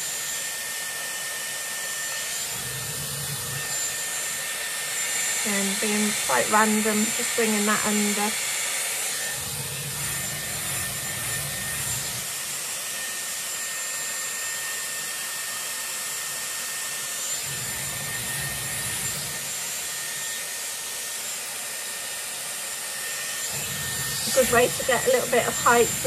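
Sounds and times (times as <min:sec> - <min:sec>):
hair styler blowing air: 0:00.0 - 0:26.0.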